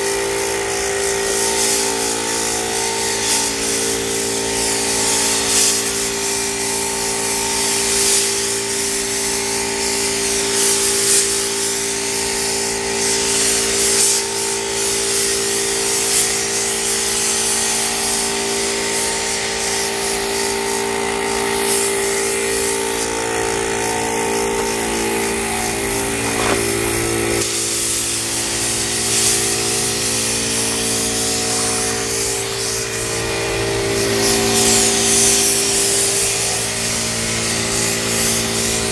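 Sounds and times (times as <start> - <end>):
paint spray gun hissing: 0.0 - 38.9.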